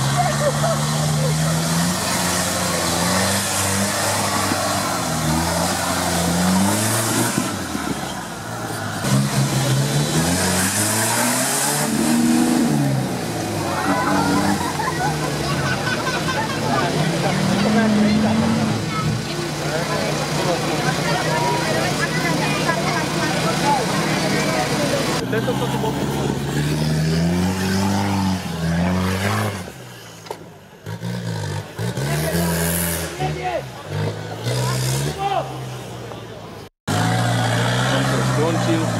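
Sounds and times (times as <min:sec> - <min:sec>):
engine revving hard: 0:00.0 - 0:08.0, 0:08.9 - 0:30.0, 0:30.8 - 0:35.7, 0:36.9 - 0:38.9.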